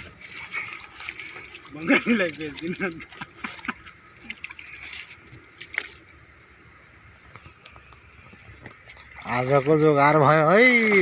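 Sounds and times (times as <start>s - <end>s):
shallow water sloshing: 0.0s - 11.0s.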